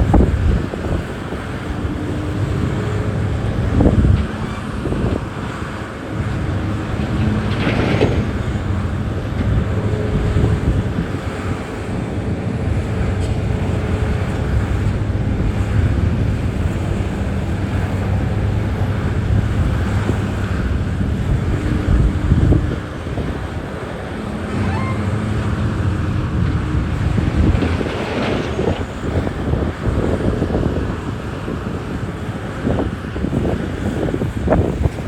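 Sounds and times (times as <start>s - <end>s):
diesel engine running: 0.0s - 35.0s
wind buffeting microphone: 0.0s - 35.0s.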